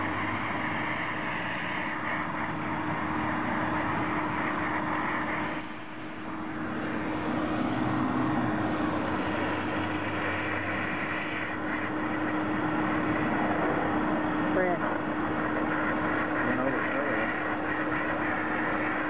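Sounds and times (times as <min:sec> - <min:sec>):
steam cleaner machine hum: 0:00.0 - 0:19.0
steam hissing: 0:00.0 - 0:19.0.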